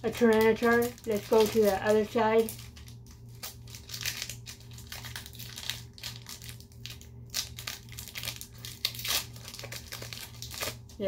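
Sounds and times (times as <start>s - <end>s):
foil pack crinkling and tearing: 0.0s - 11.0s.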